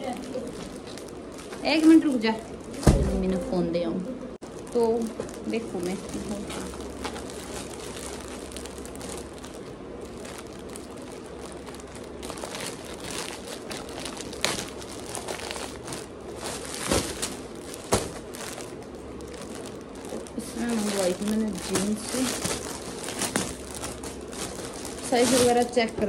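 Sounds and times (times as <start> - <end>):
plastic packaging crinkling: 0.0 - 3.4, 4.4 - 26.0.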